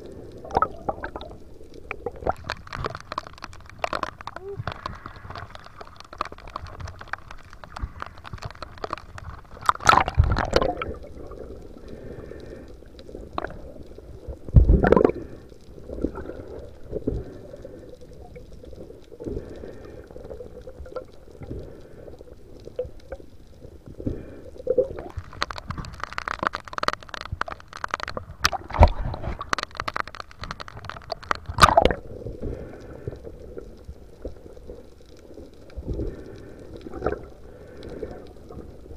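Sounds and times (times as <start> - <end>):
muffled water sloshing underwater: 0.0 - 38.9.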